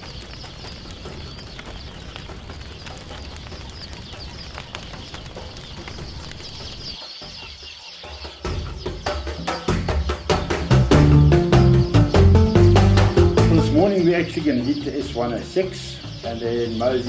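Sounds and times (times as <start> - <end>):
wood fire crackling: 0.0 - 7.6, 8.3 - 17.0
high chirping: 0.0 - 17.0.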